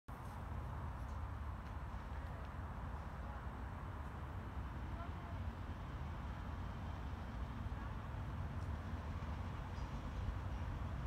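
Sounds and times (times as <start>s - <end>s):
distant freight train rumble: 0.1s - 11.0s.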